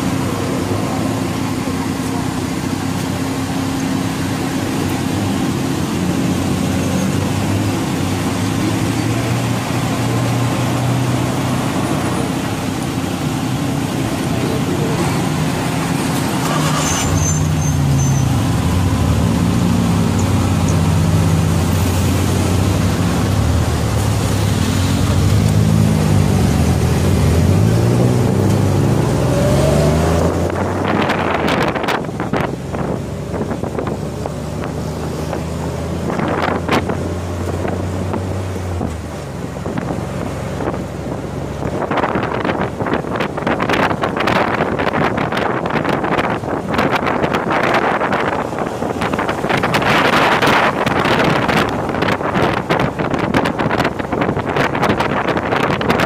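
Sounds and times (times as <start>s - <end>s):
tuk tuk engine revving: 0.0s - 56.0s.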